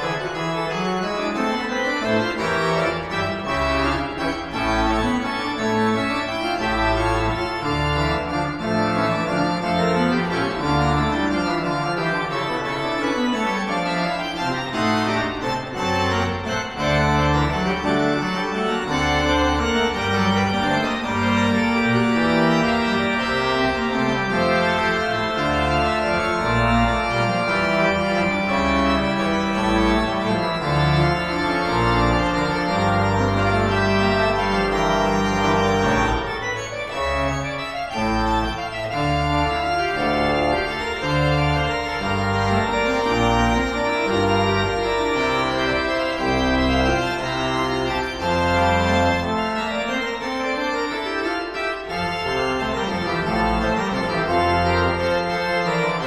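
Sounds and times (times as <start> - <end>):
organ pedal bass line: 0.0 - 56.0
pipe organ chords: 0.0 - 56.0.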